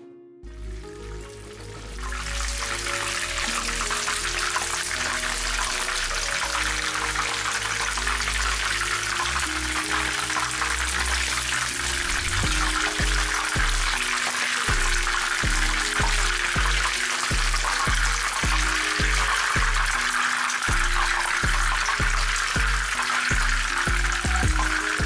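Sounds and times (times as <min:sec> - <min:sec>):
background music: 0:00.0 - 0:25.0
deep-frying sizzle: 0:00.6 - 0:25.0.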